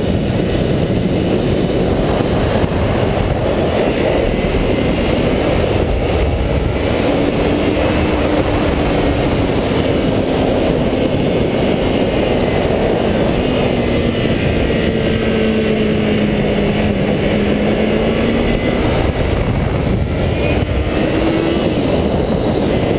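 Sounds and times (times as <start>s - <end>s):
motorcycle engine: 0.0s - 22.9s
wind rush over microphone: 0.0s - 22.9s.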